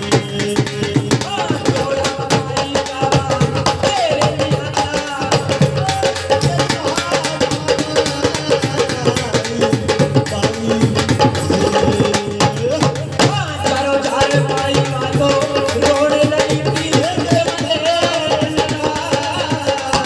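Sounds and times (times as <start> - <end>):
hand drum beat: 0.0 - 20.0
man singing: 0.0 - 20.0.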